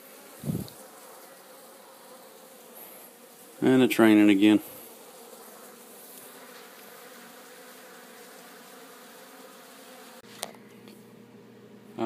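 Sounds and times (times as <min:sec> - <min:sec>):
honey bees buzzing: 0:00.0 - 0:10.4.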